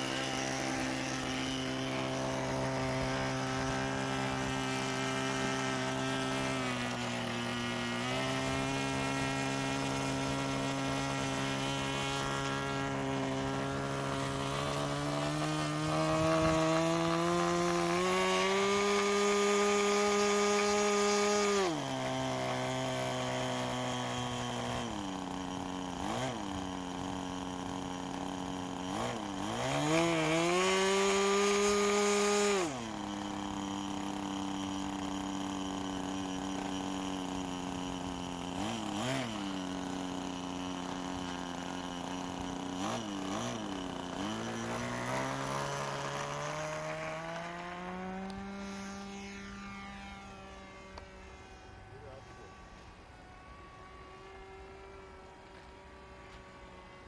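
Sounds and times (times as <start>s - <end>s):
model airplane engine revving: 0.0s - 57.0s.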